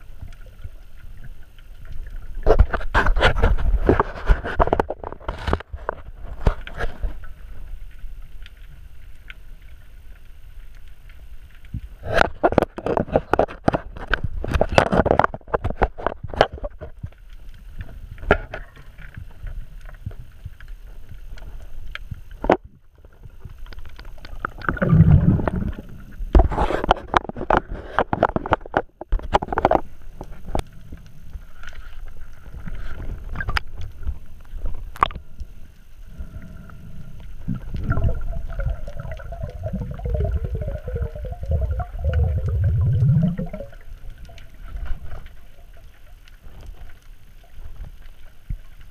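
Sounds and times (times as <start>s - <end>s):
low water surges: 0.0s - 28.5s, 29.3s - 48.9s
underwater sloshing and bubbling: 0.0s - 48.9s.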